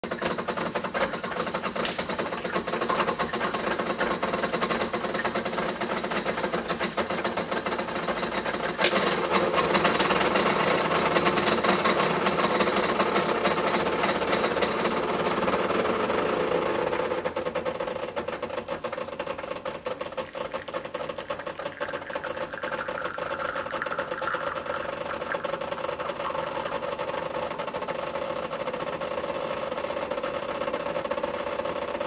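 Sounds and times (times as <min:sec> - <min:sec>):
espresso machine pump buzzing: 0:00.0 - 0:32.0.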